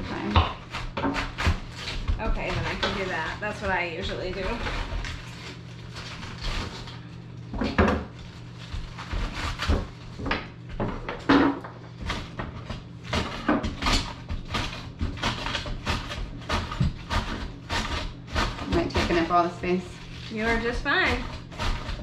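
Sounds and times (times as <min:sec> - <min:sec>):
knife cutting cabbage on wooden board: 0:00.1 - 0:06.9, 0:08.6 - 0:10.2, 0:12.0 - 0:22.0.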